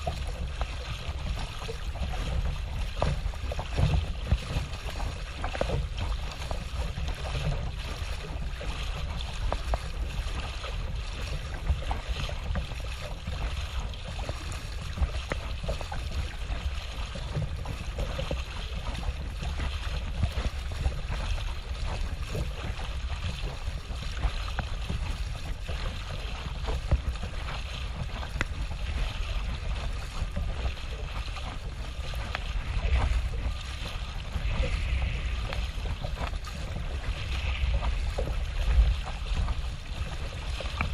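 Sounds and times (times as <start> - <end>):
water sloshing around kayak: 0.0 - 40.9
wind rumble on microphone: 0.0 - 40.9.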